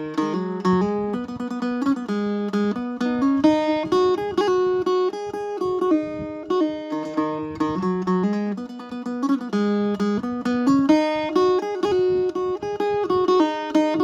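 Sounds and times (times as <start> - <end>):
plucked lute melody over drone: 0.0 - 14.0.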